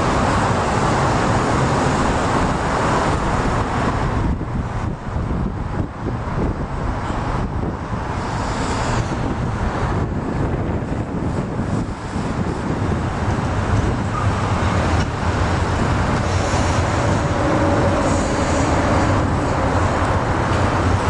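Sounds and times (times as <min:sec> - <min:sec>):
freight train rumbling over bridge: 0:00.0 - 0:21.0.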